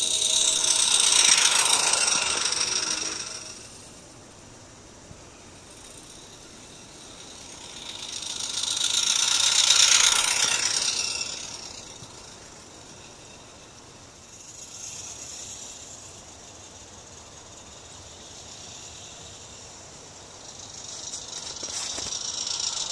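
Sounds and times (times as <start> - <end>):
locomotive running gear rattling: 0.0 - 22.9
steam locomotive hissing: 0.0 - 22.9.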